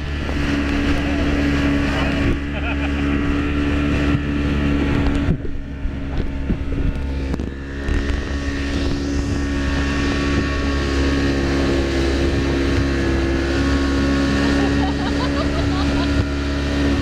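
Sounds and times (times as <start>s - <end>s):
motorboat engine running: 0.0s - 17.0s
wind buffeting microphone: 0.0s - 17.0s.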